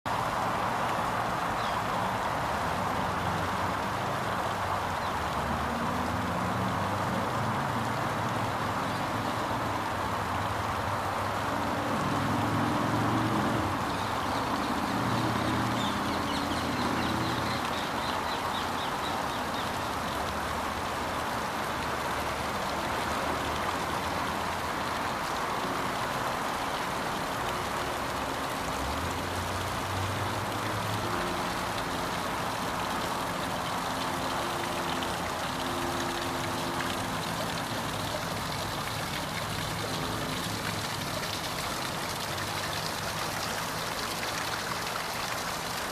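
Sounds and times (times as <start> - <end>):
road traffic hum: 0.1 - 45.9
water fountain splashing: 0.1 - 45.9.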